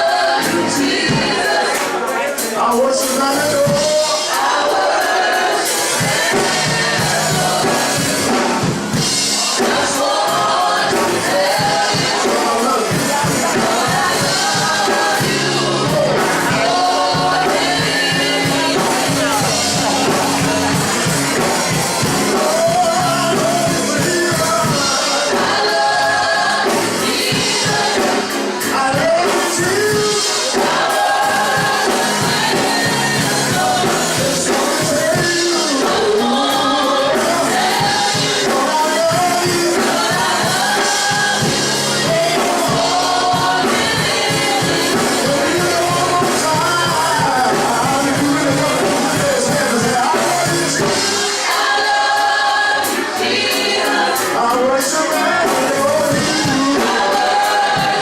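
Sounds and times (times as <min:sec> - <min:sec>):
gospel song with accompaniment: 0:00.0 - 0:58.0.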